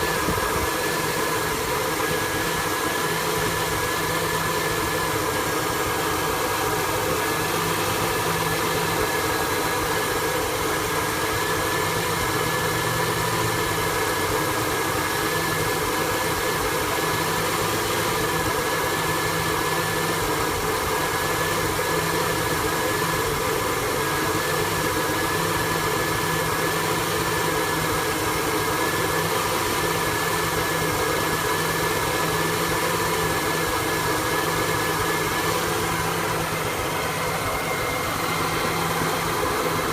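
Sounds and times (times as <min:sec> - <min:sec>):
truck engine idling rough: 0:00.0 - 0:39.9.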